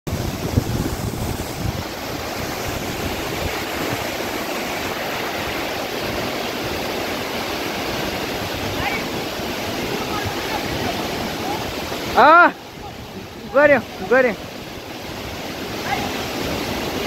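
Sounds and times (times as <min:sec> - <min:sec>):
waterfall rushing over rocks: 0:00.1 - 0:17.0.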